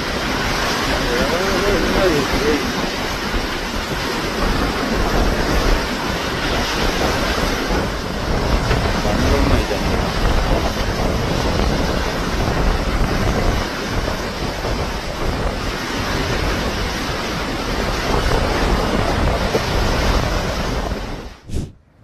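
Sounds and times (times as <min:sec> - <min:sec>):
sea rushing: 0:00.0 - 0:22.0
wind buffeting microphone: 0:00.0 - 0:22.0
wind rushing: 0:00.0 - 0:22.0.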